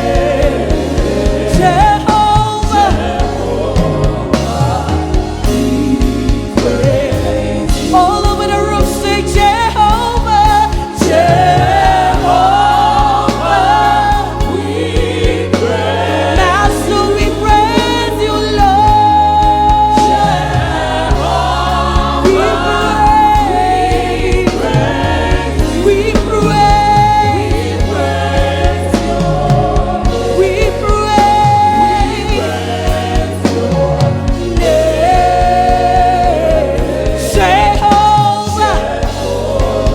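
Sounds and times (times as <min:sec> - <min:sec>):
bass line: 0:00.0 - 0:39.9
choir singing: 0:00.0 - 0:39.9
drum beat: 0:00.0 - 0:39.9.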